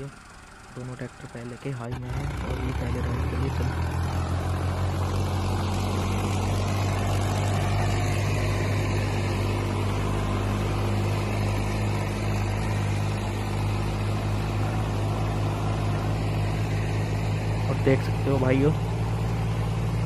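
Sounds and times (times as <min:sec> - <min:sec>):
tractor diesel engines droning: 0:00.0 - 0:20.0.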